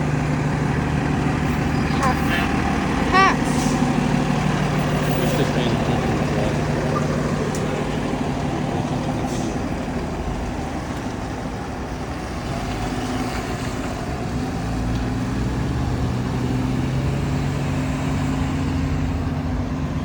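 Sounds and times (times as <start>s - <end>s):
fire engine running: 0.0s - 20.0s.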